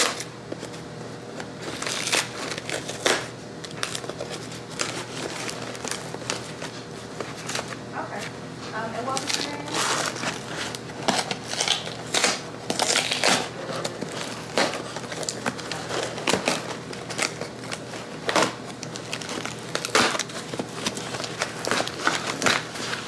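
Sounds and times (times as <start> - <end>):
material crinkling and crunching: 0.0 - 23.0.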